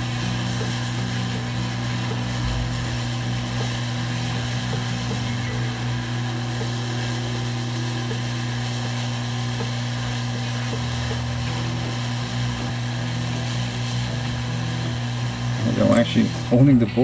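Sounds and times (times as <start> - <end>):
hot air station humming: 0.0 - 17.0.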